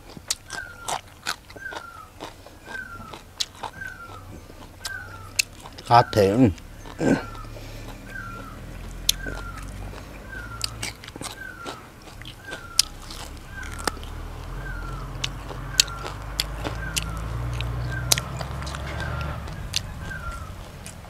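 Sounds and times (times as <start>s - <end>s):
man gnawing at meat: 0.0s - 21.0s
steady low hum: 0.0s - 21.0s.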